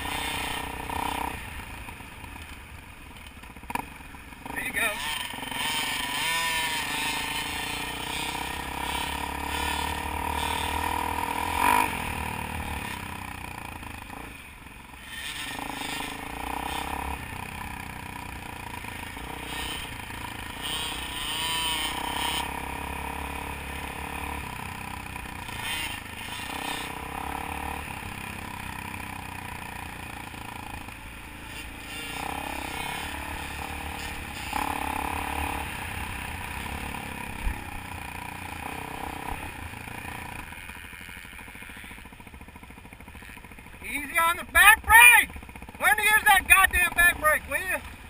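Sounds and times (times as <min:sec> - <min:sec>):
dirt bike engine running: 0:00.0 - 0:48.0.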